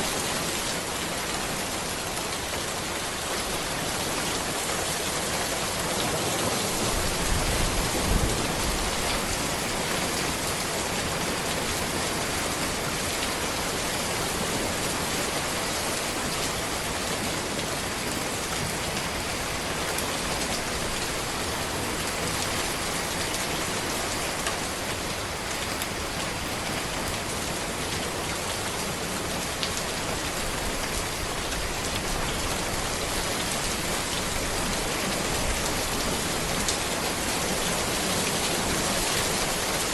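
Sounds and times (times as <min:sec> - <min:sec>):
steady rain on road and trees: 0:00.0 - 0:39.9.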